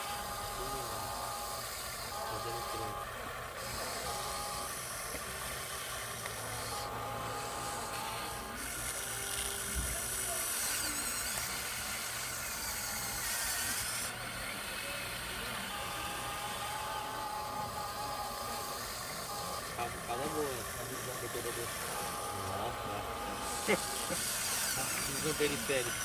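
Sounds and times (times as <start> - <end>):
electric motor thin whine: 0.0 - 26.0.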